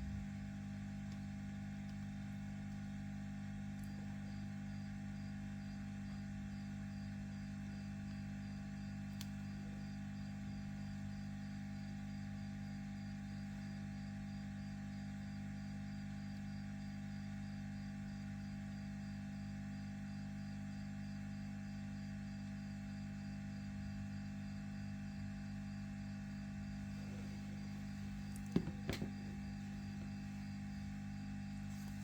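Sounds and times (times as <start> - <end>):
steady low hum: 0.0 - 14.1, 20.1 - 32.0.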